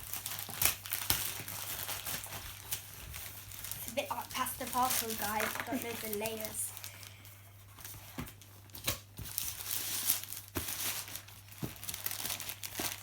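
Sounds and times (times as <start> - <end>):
wrap tearing with crackles: 0.0 - 6.9, 8.8 - 13.0
packaging wrap crinkling: 0.0 - 13.0.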